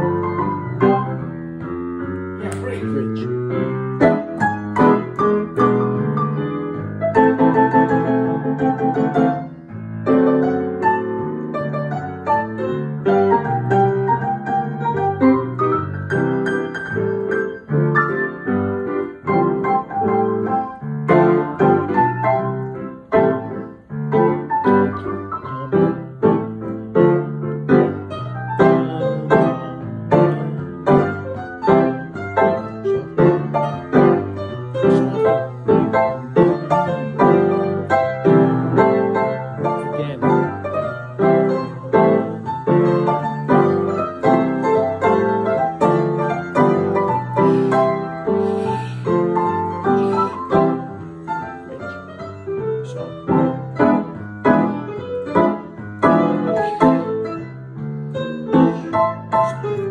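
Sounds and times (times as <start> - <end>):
piano duet: 0.0 - 59.9.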